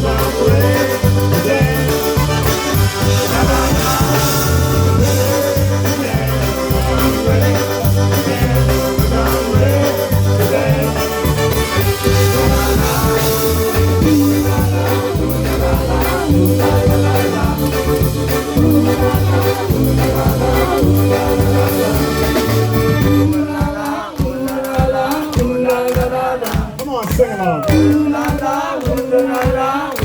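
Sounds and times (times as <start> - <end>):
polka band playing: 0.0 - 30.0.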